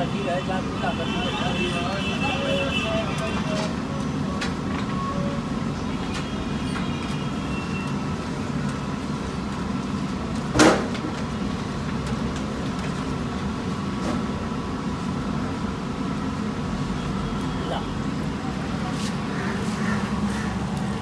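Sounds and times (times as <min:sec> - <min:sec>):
busy street rumble: 0:00.0 - 0:21.0.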